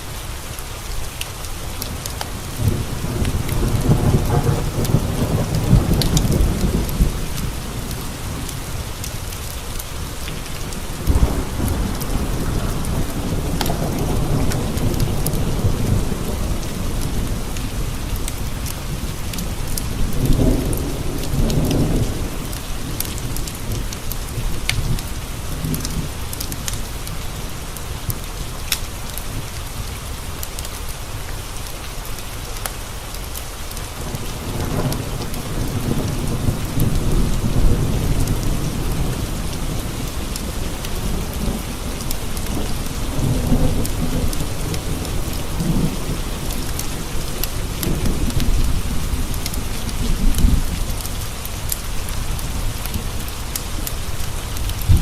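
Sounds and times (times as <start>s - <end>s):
rain pattering on windows: 0.0s - 55.0s
thunder rumbling: 1.9s - 28.5s, 34.0s - 55.0s.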